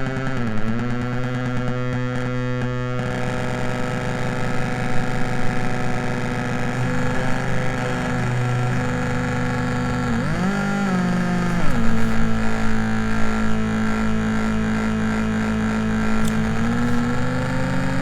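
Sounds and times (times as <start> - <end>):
droning synth buzz: 0.0 - 18.0.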